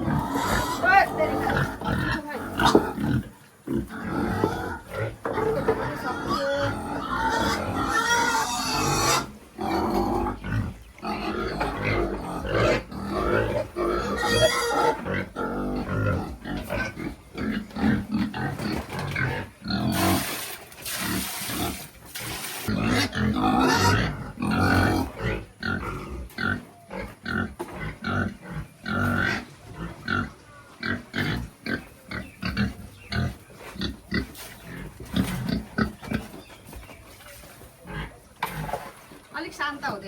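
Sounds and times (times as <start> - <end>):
pigs squealing: 0.0 - 36.0
pigs grunting: 0.0 - 36.5, 37.6 - 39.2.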